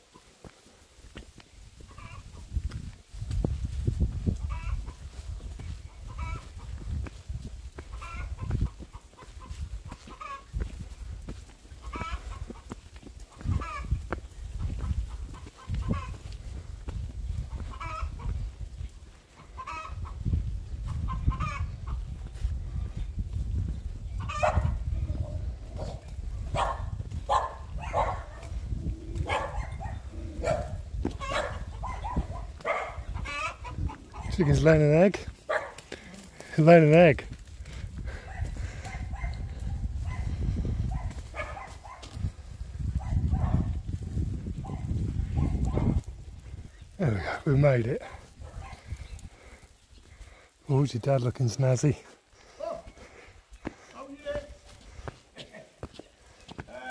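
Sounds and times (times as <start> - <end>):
hens clucking and cackling: 1.7 - 2.7, 3.8 - 23.1, 23.7 - 50.6.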